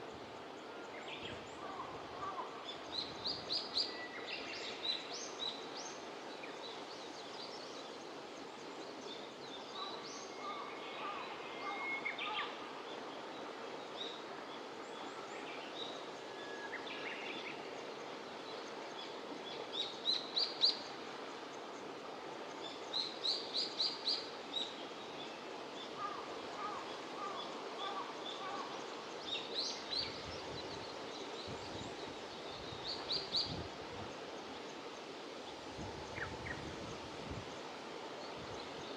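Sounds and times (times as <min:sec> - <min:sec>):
steady background hiss: 0:00.0 - 0:38.9.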